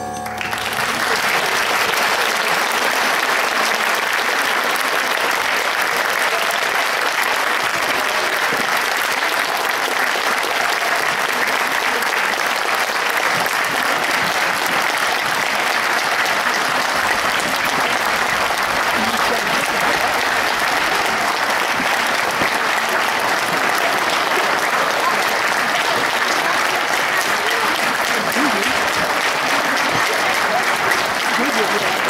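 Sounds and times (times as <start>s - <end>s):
large audience applauding: 0.0s - 32.0s.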